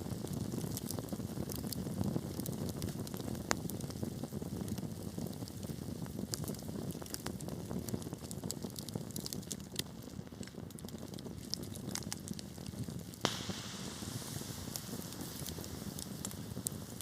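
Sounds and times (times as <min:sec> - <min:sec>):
fire crackling and popping: 0:00.0 - 0:17.0
fire rumbling: 0:00.0 - 0:17.0
sharp crack of fire: 0:00.0 - 0:17.0.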